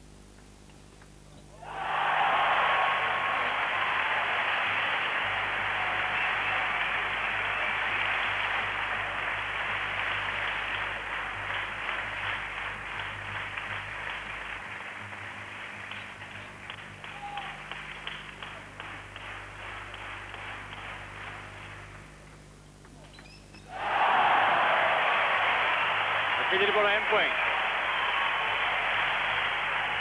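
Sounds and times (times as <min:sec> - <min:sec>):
crowd applauding: 0:01.6 - 0:22.5, 0:23.7 - 0:30.0.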